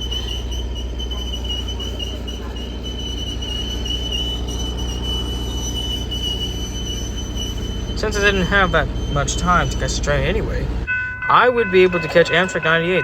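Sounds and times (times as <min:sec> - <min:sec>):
train rumbling: 0:00.0 - 0:13.0
train wheels squealing: 0:00.0 - 0:13.0.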